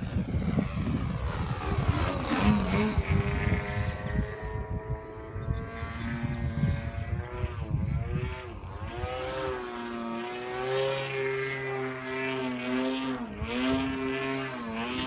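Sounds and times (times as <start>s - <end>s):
model airplane engine: 0.0s - 15.0s.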